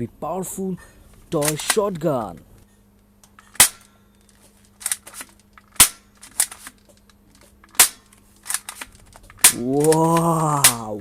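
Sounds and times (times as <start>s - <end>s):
mechanism clicks: 1.3s - 11.0s.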